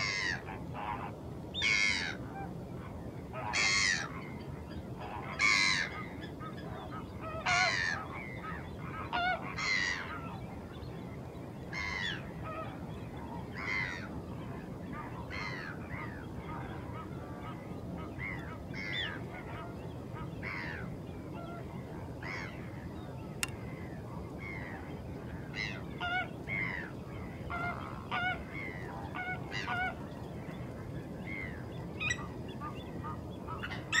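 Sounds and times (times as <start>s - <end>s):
waterbirds calling: 0.0s - 34.0s.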